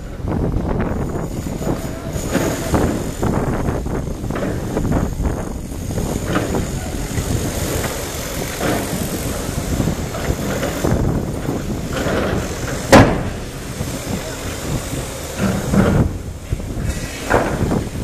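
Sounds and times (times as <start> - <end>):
excavator diesel engine rumbling: 0.0 - 18.0.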